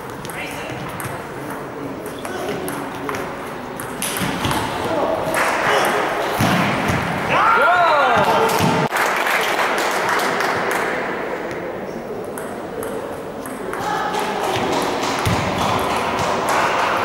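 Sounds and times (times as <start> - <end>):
murmur of voices: 0.0 - 8.9, 10.5 - 17.0.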